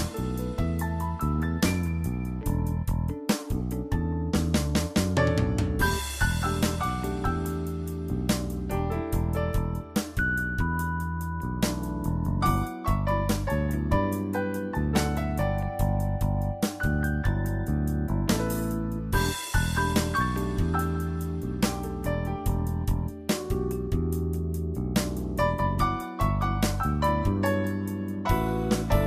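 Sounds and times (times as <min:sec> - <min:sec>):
piano instrumental music: 0:00.0 - 0:29.0
sustained bass line: 0:00.0 - 0:29.0
melody of pitched notes: 0:05.2 - 0:29.0.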